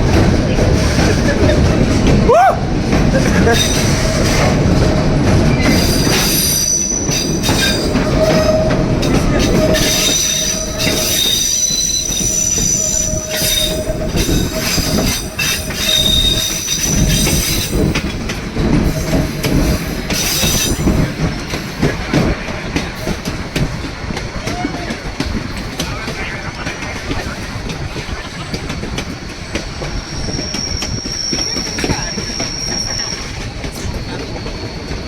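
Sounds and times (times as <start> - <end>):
train rumbling on track: 0.0 - 35.0
wheels squealing on rails: 0.0 - 35.0.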